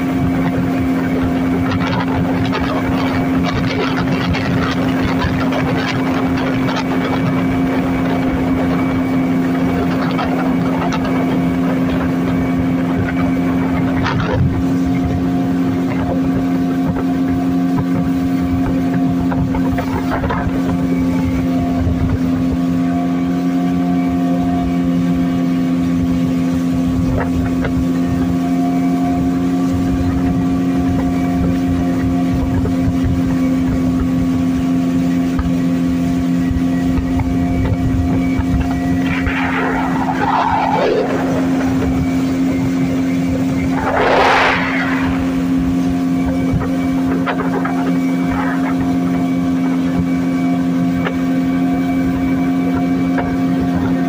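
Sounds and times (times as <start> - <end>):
outboard motor drone: 0.0 - 54.0.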